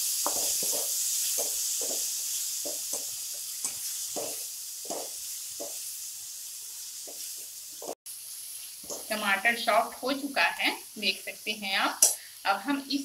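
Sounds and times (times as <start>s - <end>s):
tomatoes sizzling in oil: 0.0s - 13.0s.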